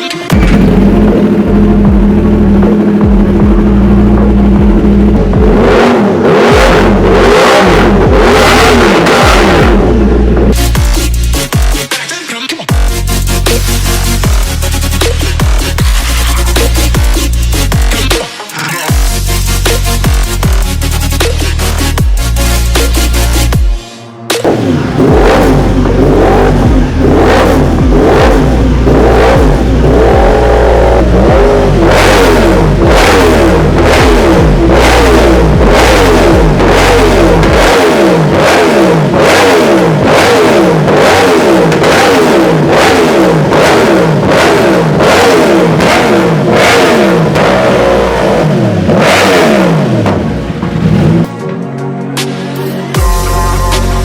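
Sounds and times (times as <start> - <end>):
motorcycle engine revving in blips: 0.0 - 11.8, 12.7 - 18.3, 24.3 - 51.3.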